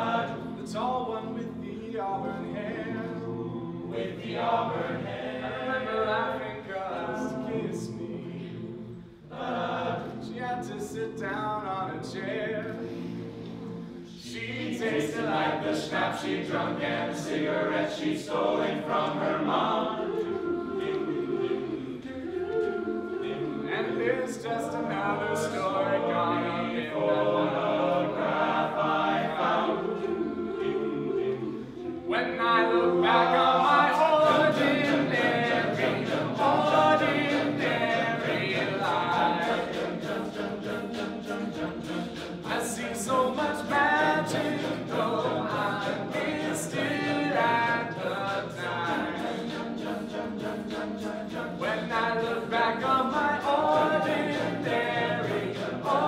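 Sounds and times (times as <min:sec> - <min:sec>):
male a cappella group singing: 0:00.0 - 0:56.0.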